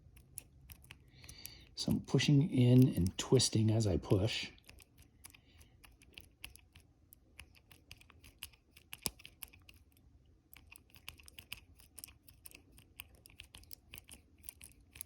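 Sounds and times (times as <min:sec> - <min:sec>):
lock tool clicking and scratching: 0:00.0 - 0:03.6, 0:04.6 - 0:15.0.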